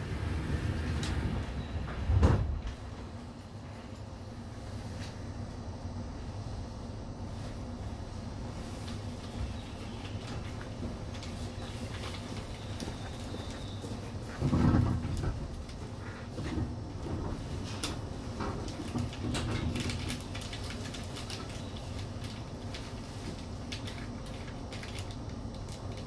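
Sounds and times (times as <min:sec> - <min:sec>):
low train hum: 0:00.0 - 0:26.0.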